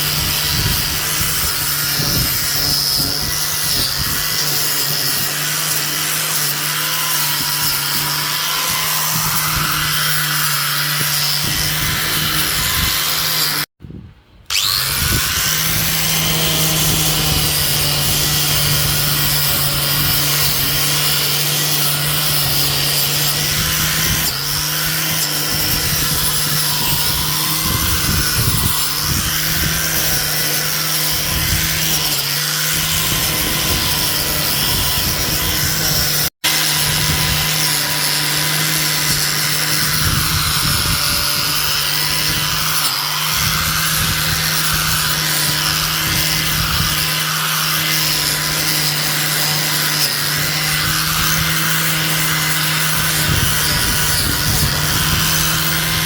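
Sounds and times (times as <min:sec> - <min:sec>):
power tool running: 0:00.0 - 0:13.8, 0:14.5 - 0:56.0.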